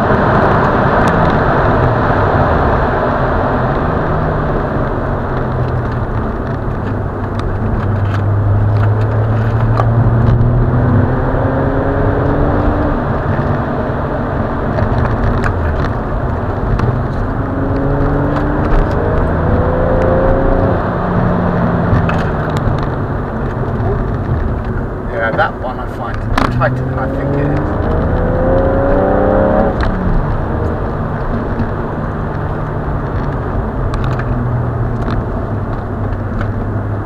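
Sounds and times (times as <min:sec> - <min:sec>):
car engine accelerating: 0:00.0 - 0:37.0
road noise inside car: 0:00.0 - 0:37.0.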